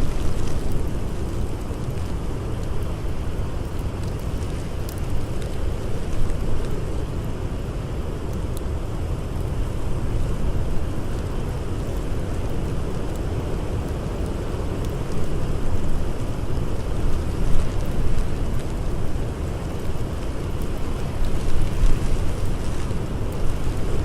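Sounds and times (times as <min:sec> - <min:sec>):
blizzard wind: 0:00.0 - 0:24.0
campfire crackling: 0:00.0 - 0:24.0.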